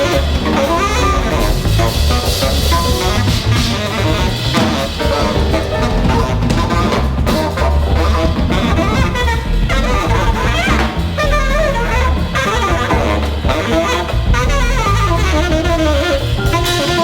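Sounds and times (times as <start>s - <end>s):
bass: 0.0s - 17.0s
drum kit: 0.0s - 17.0s
saxophone melody: 0.0s - 17.0s.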